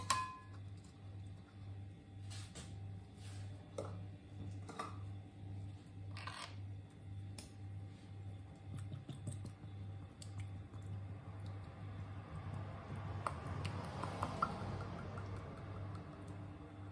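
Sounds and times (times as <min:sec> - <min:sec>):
low pulsing hum: 0:00.0 - 0:16.9.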